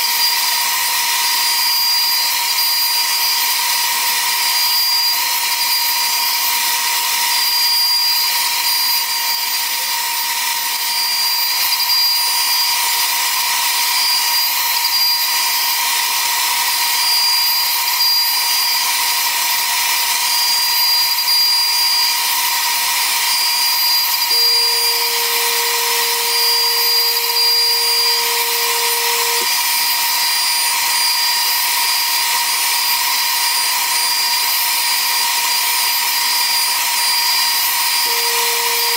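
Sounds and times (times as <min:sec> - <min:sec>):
cnc router cutting plywood: 0:00.0 - 0:38.9.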